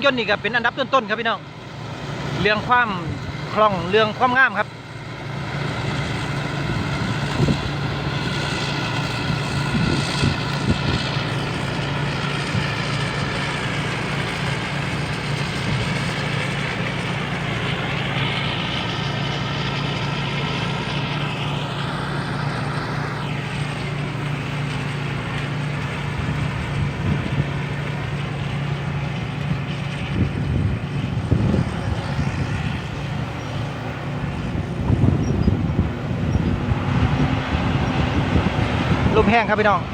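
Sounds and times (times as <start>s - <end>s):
diesel engine running: 0.0s - 39.9s
machinery whine: 0.0s - 39.9s.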